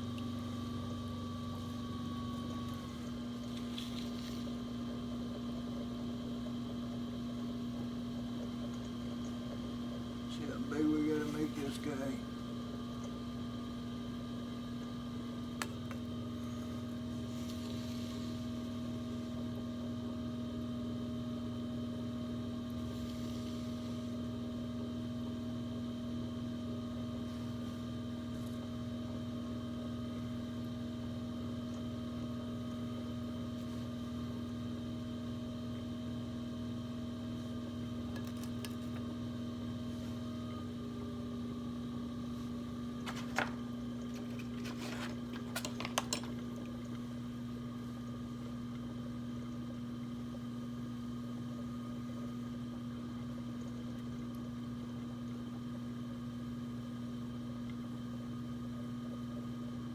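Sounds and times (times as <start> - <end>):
potter's wheel motor humming: 0.0 - 59.9.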